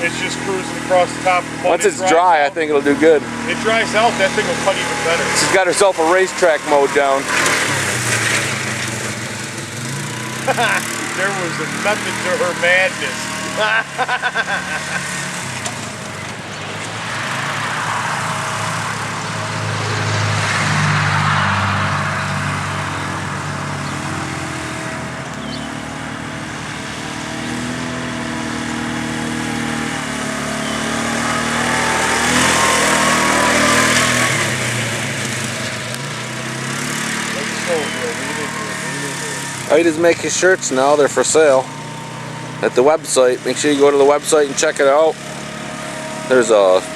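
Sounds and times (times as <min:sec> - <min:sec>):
quad bike engine running: 0:00.0 - 0:17.6, 0:22.1 - 0:46.9
lawn mower engine running: 0:00.0 - 0:46.9.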